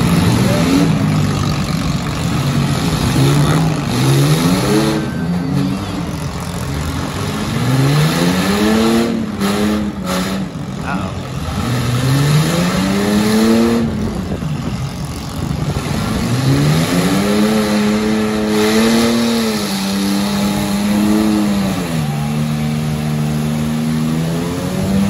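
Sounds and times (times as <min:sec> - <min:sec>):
car engine revving hard: 0:00.0 - 0:06.0, 0:06.9 - 0:14.4, 0:15.6 - 0:25.0.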